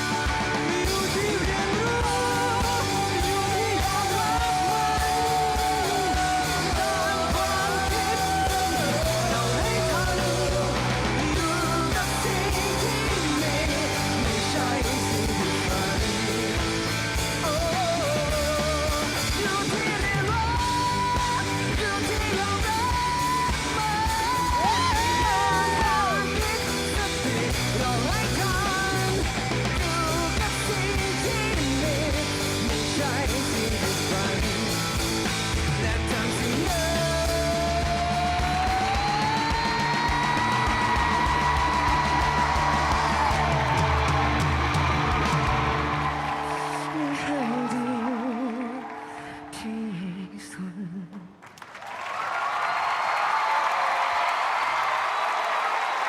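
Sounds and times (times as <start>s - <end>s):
rock band music with guitar: 0.0s - 47.1s.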